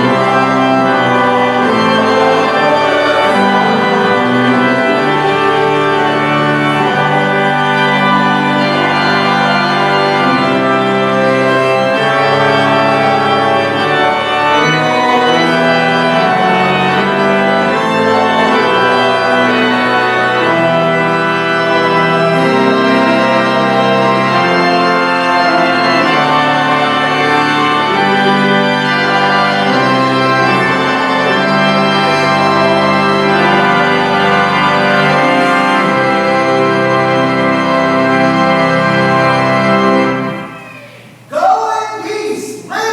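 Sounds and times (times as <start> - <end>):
church organ chords: 0.0 - 41.3.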